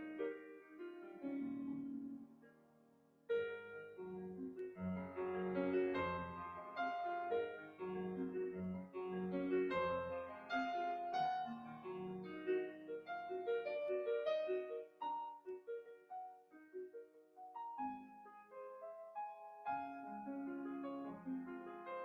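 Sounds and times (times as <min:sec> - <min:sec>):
solo piano melody: 0:00.0 - 0:22.0.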